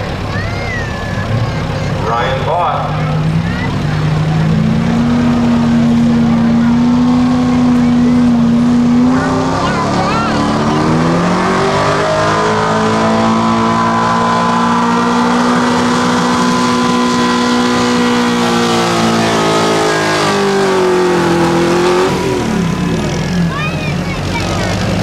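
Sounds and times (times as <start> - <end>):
truck engine straining: 0.0 - 25.0.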